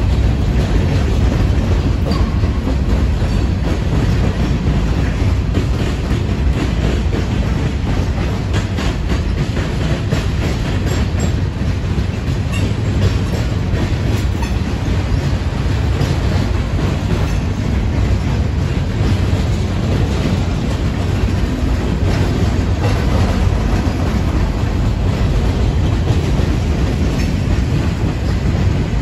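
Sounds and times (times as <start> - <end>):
steel wheels rumbling on rail: 0.0 - 29.0
wheels clicking over rail joints: 0.0 - 29.0.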